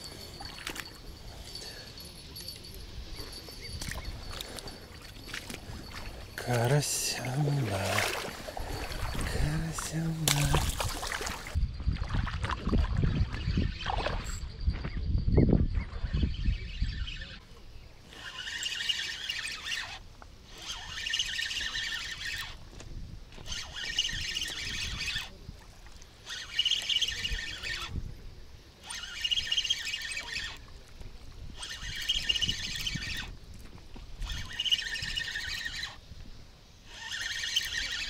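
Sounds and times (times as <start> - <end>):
fishing reel whirring: 0.0 - 11.6, 13.3 - 14.3, 15.8 - 28.1, 28.8 - 36.2, 36.8 - 38.0.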